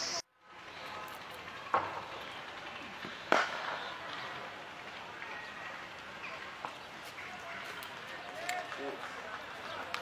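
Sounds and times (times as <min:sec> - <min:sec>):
outdoor background noise: 0:00.0 - 0:10.0.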